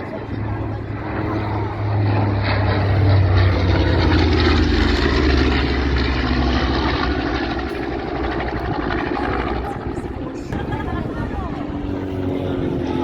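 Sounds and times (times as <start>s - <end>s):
propeller airplane flying past: 0.0s - 13.0s.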